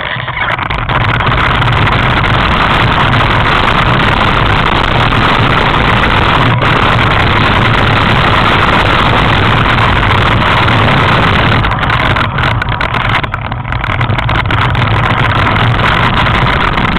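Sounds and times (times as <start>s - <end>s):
loud engine running: 0.0s - 16.9s
rushing noise: 0.0s - 16.9s.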